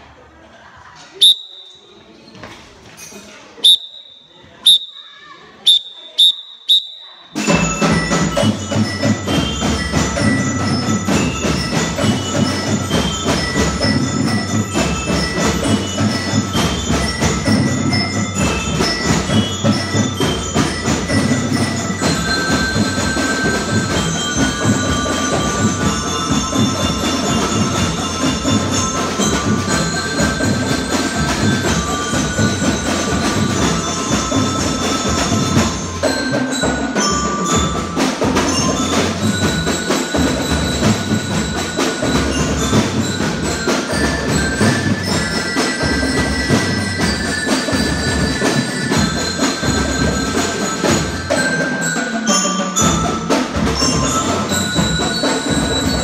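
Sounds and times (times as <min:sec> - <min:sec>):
marching drum beat: 0:07.4 - 0:51.7, 0:52.8 - 0:56.0
xylophone melody: 0:07.4 - 0:56.0.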